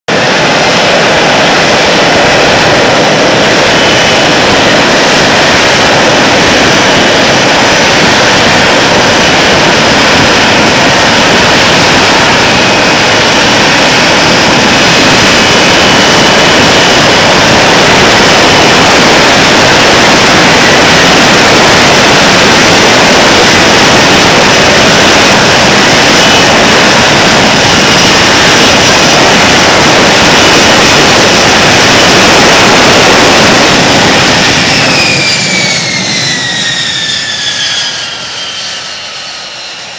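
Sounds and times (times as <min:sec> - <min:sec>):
jet engine and lift fan roaring: 0:00.0 - 0:39.9.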